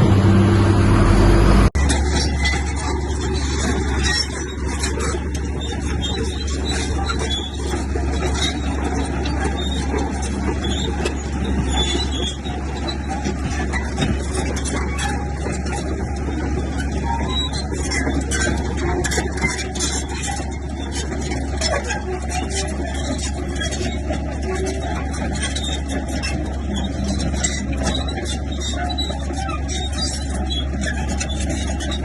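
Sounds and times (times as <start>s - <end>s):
heavy diesel machinery engine hum: 0.0s - 32.0s
rapid high-pitched clicking and squeaking: 1.8s - 32.0s.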